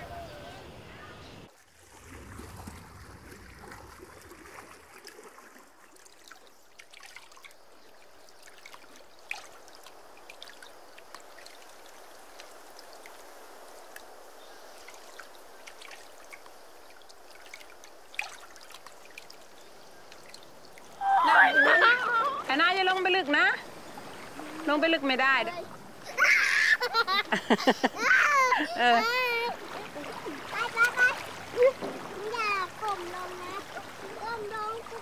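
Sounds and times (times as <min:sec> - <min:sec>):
water lapping gently: 0:00.0 - 0:35.0
water drips and splashes: 0:01.5 - 0:35.0.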